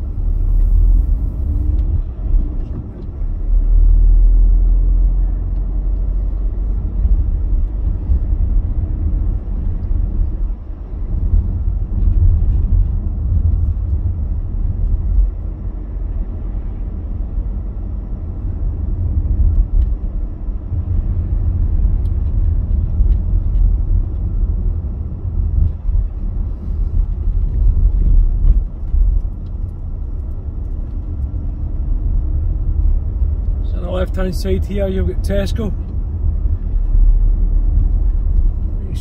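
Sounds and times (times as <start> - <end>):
car cabin engine and tyre rumble: 0.0 - 39.0.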